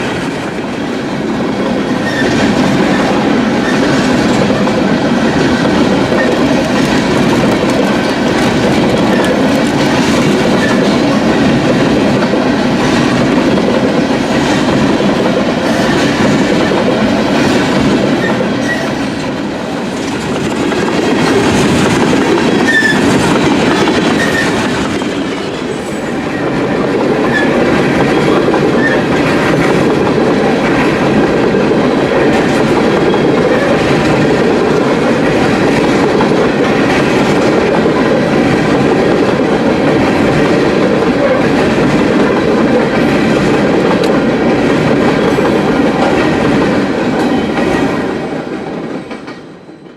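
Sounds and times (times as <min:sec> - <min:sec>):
train wheels clattering over rail joints: 0:00.0 - 0:49.7.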